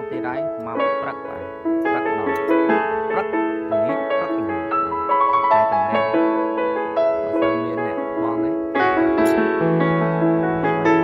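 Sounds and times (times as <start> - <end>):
keyboard melody of held notes: 0.0 - 11.0.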